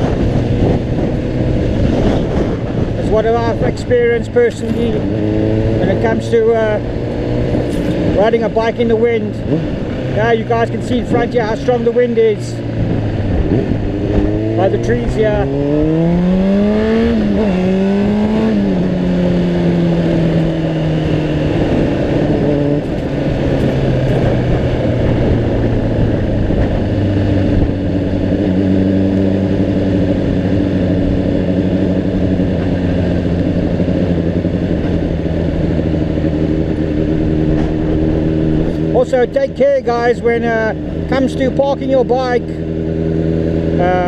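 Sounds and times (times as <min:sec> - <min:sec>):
motorcycle engine running: 0:00.0 - 0:44.0
wind noise: 0:00.0 - 0:44.0.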